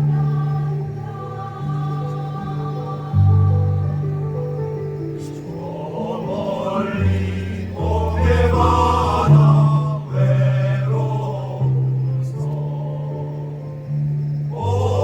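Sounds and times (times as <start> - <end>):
choir singing: 0.0 - 15.0
low held accompaniment notes: 0.0 - 15.0.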